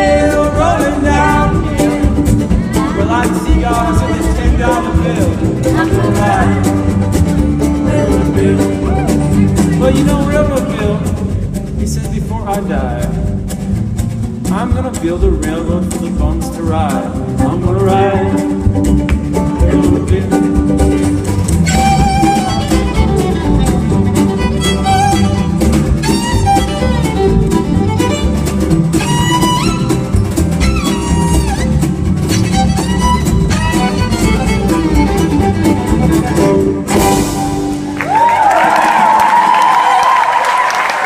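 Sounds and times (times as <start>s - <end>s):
fiddle: 0.0s - 38.4s
low rhythm: 0.0s - 40.6s
guitar: 0.0s - 41.0s.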